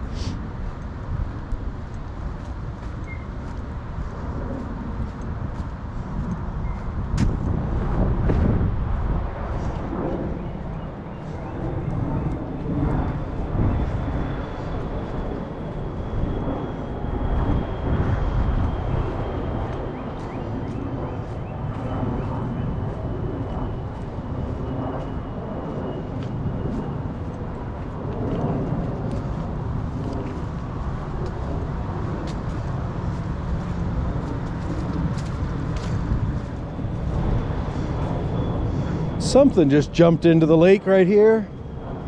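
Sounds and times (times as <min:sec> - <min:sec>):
footsteps crunching on trail: 0:00.0 - 0:10.3, 0:11.1 - 0:40.0
highway traffic rumble: 0:00.0 - 0:42.0.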